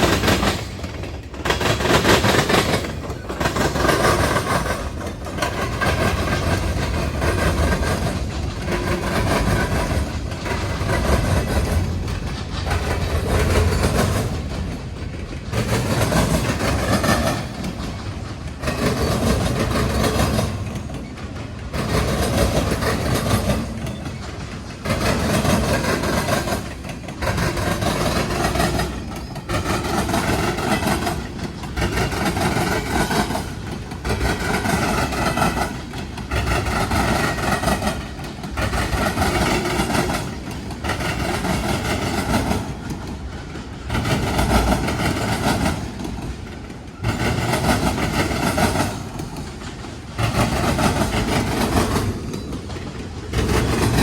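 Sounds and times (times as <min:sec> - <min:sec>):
train wheels clattering over crossing: 0:00.0 - 0:54.0.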